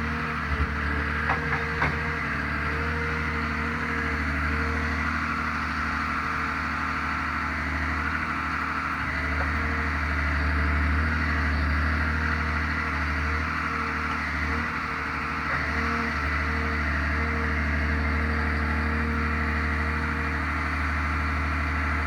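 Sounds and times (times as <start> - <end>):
diesel engine running: 0.0 - 22.0
hydraulic crane whine: 0.0 - 22.0.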